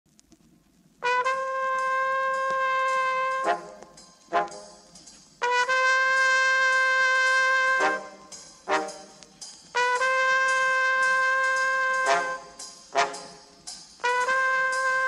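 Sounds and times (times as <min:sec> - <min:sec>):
solo brass horn: 0:01.0 - 0:15.0.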